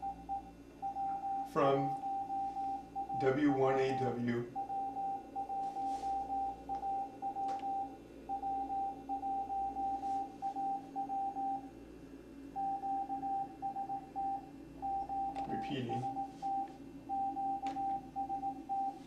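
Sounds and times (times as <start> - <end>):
morse code beeps: 0.0 - 11.7, 12.6 - 19.0.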